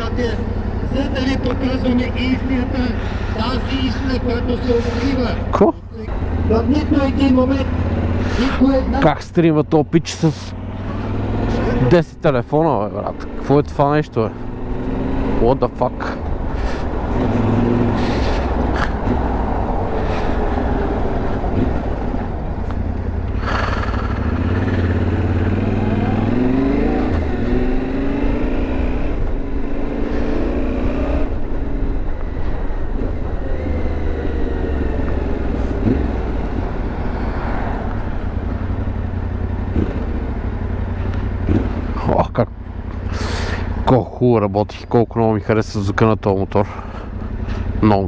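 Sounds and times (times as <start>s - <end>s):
motorcycle engine revving: 0.0s - 9.1s, 10.1s - 44.2s.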